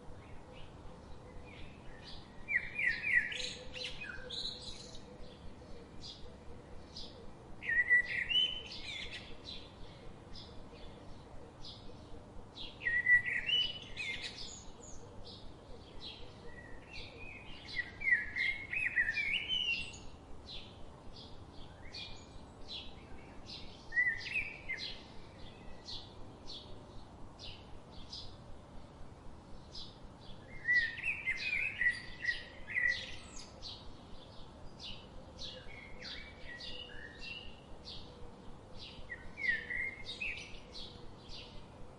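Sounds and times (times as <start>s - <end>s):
bird warbling song: 0.2s - 28.4s, 29.6s - 41.9s.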